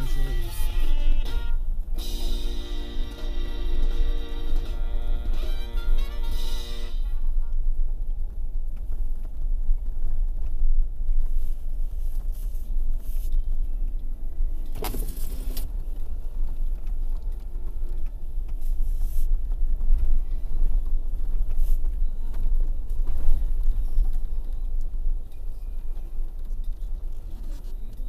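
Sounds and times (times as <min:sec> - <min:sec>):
vehicle rumble inside cabin: 0:00.0 - 0:28.0.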